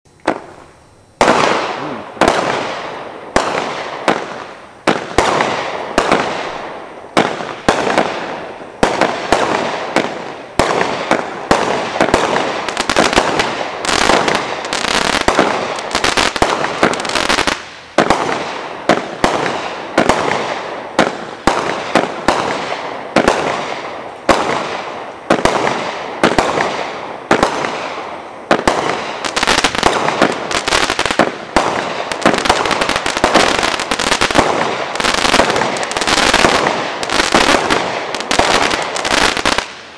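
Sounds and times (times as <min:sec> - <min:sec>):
firework reports with crackle: 0:00.2 - 0:39.9.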